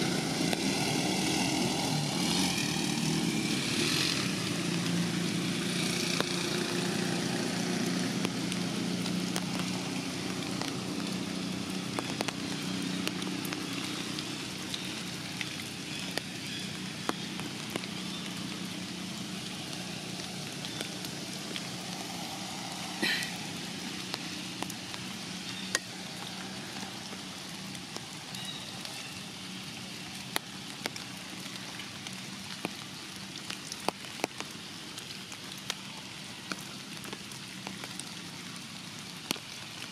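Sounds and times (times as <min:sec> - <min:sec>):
distant engine drone: 0:00.0 - 0:39.9
drops ticking on leaves: 0:00.0 - 0:39.9
light rain on foliage: 0:00.0 - 0:39.9.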